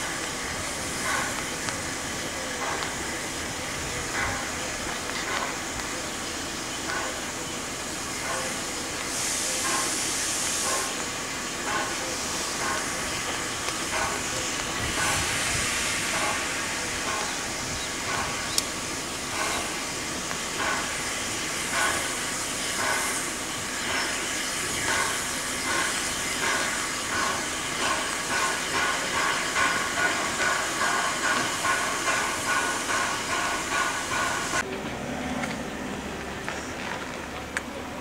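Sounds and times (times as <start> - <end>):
locomotive exhaust beats: 0.0 - 38.0
steam locomotive hissing: 0.0 - 38.0.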